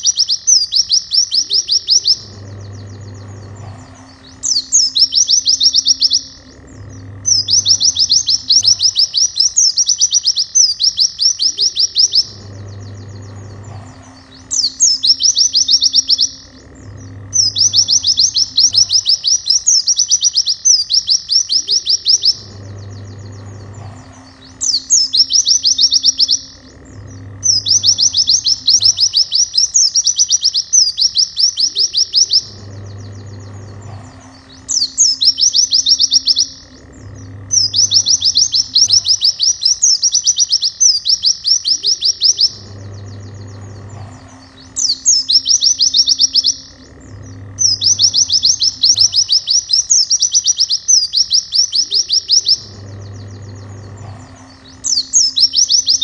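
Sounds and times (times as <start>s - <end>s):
bird trilling song: 0.0s - 56.0s.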